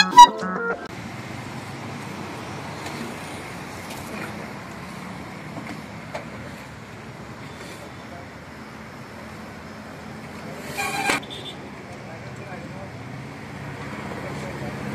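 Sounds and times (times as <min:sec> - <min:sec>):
roadside traffic: 0:00.0 - 0:14.9.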